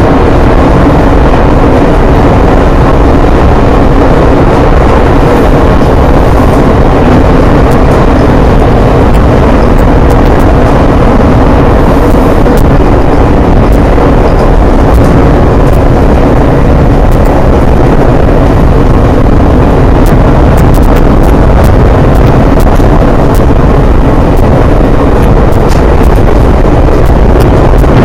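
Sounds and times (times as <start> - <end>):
train rumbling at speed: 0.0 - 28.0.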